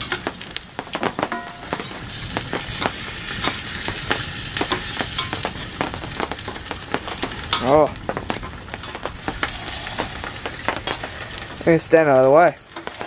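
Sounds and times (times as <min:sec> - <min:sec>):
campfire crackling and hissing: 0:00.0 - 0:13.0
sharp pops from fire: 0:00.0 - 0:13.0.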